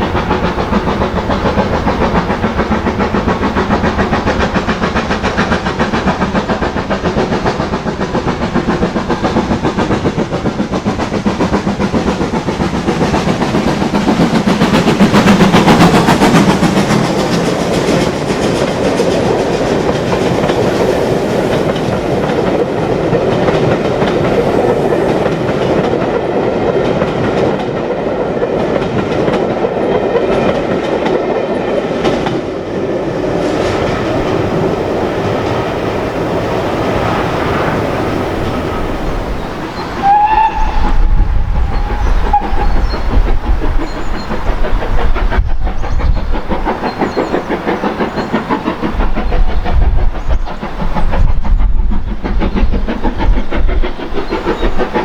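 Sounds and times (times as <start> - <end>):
steam locomotive passing: 0.0 - 55.0
wheels clacking over rail joints: 0.0 - 55.0.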